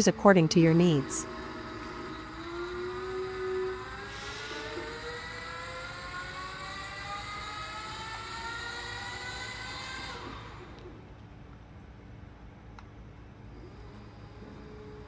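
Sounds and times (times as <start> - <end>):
electric motor whining: 0.0 - 11.2, 13.5 - 15.0.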